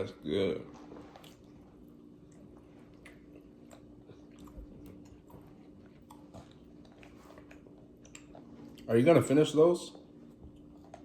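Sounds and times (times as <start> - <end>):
steady low hum: 0.0 - 11.0
person chewing food: 0.9 - 8.9, 10.0 - 11.0.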